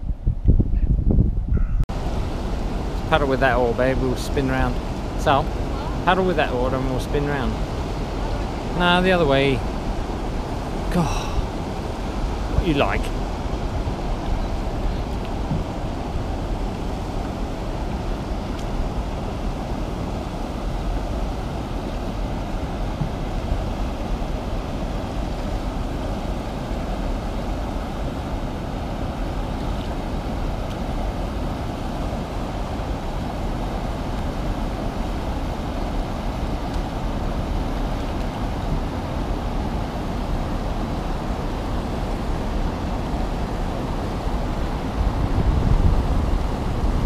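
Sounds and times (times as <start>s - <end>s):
wind buffeting microphone: 0.0s - 6.8s, 7.4s - 47.0s
rushing river water: 1.9s - 47.0s.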